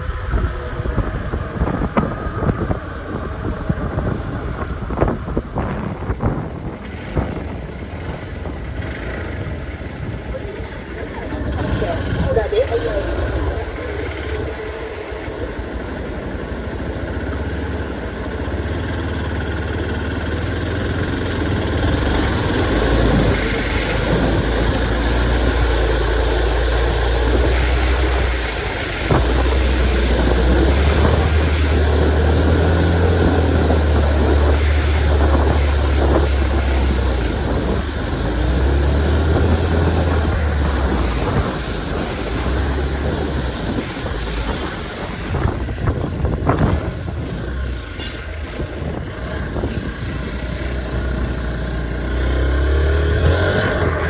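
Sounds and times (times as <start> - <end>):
motorcycle engine running: 0.0 - 54.0
wind hiss on microphone: 0.0 - 54.0.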